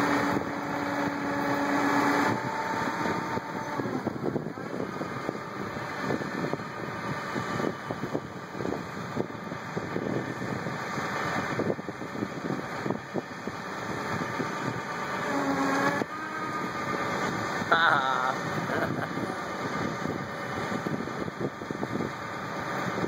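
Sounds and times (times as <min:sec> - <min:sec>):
tractor engines running: 0:00.0 - 0:23.0.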